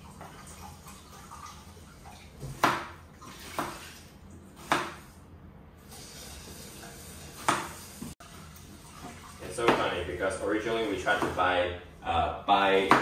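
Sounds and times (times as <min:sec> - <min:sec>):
water splashing and dishes clattering: 0:00.0 - 0:05.2, 0:05.8 - 0:11.6.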